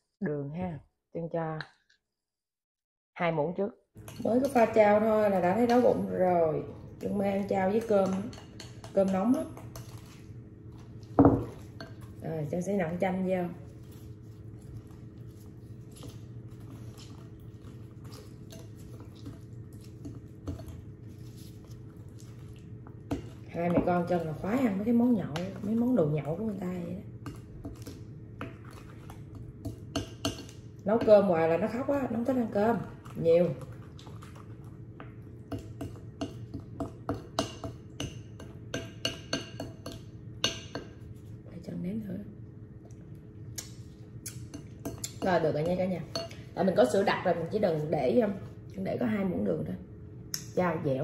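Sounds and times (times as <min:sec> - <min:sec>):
steady low hum: 0:04.0 - 0:51.0.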